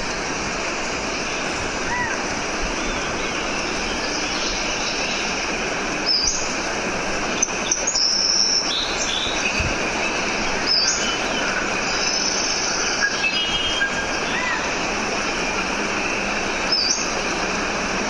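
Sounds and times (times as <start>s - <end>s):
birds chirping: 0.0s - 18.0s
water rushing: 0.0s - 18.0s.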